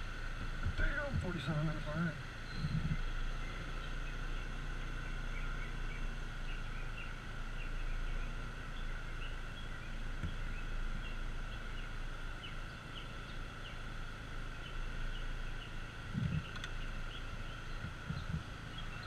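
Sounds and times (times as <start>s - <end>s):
scooter engine idling: 0.0s - 19.0s
bird chirps: 2.4s - 13.8s, 14.6s - 19.0s.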